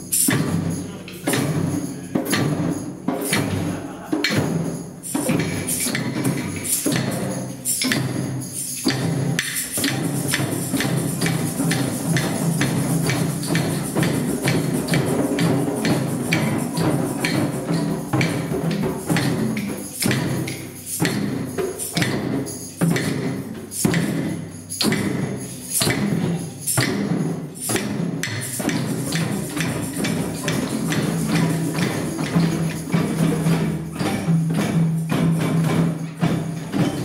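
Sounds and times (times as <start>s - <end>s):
hand drums and shakers playing: 0.0s - 37.0s.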